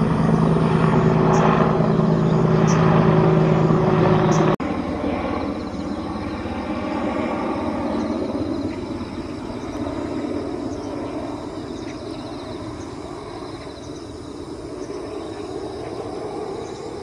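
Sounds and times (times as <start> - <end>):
bird song trills: 0.0 - 4.6, 5.2 - 17.0
helicopter rotor and engine drone: 0.0 - 17.0.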